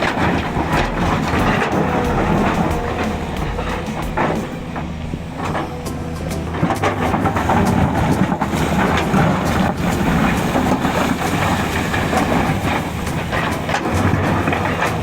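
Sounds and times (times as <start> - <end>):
heavy machine engine hum: 0.0 - 15.0
metallic clanks and rattles: 0.0 - 15.0.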